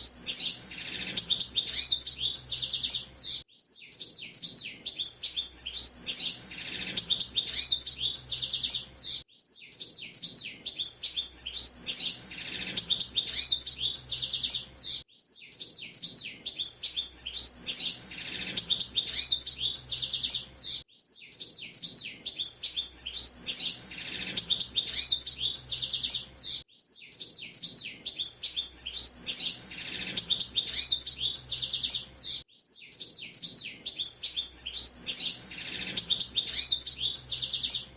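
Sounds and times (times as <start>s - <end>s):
bird twittering song: 0.0s - 37.9s.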